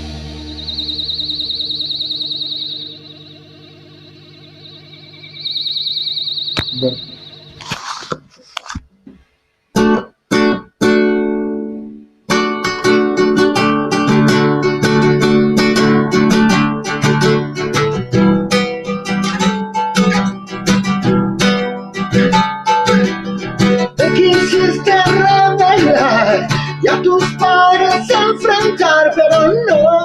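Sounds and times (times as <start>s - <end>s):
acoustic guitar strumming: 0.0s - 7.7s, 9.8s - 30.0s.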